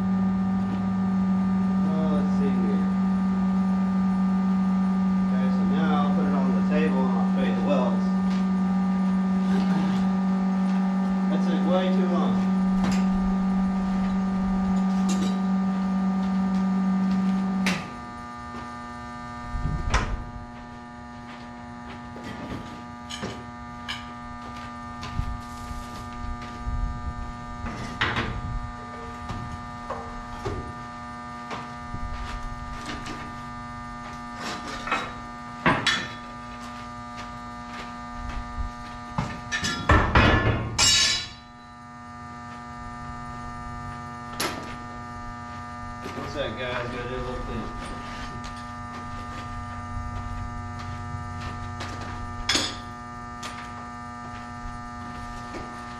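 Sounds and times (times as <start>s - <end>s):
loud buzz: 0.0s - 55.9s
steady electrical hum: 0.0s - 55.9s.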